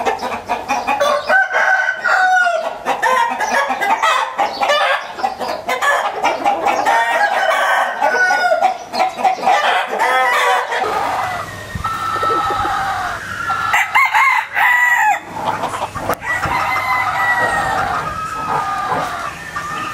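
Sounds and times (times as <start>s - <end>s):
chickens clucking: 0.0s - 19.9s
roosters crowing: 0.0s - 19.9s.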